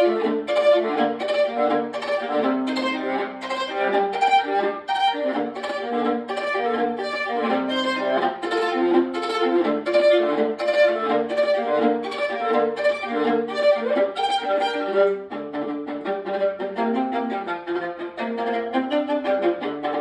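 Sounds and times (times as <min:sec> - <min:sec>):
violin melody: 0:00.0 - 0:20.0.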